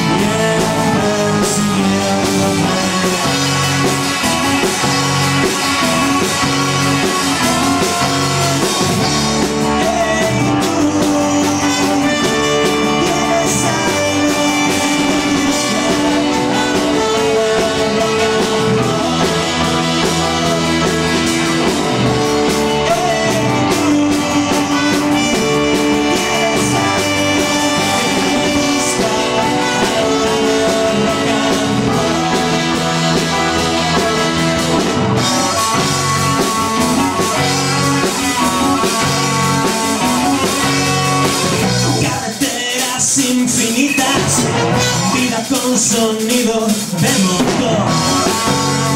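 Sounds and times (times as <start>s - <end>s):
live rock band playing: 0.0s - 48.9s
trumpet: 0.0s - 48.9s.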